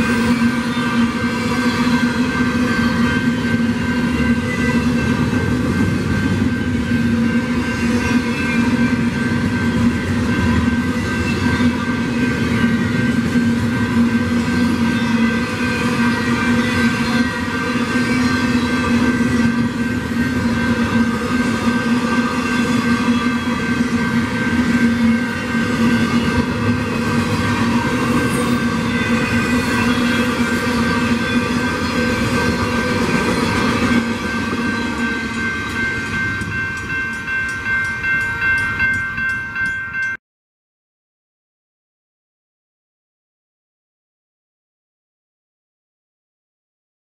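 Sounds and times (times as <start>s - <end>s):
continuous steady tones: 0.0s - 40.0s
train wheels rumbling on rail: 0.0s - 40.1s.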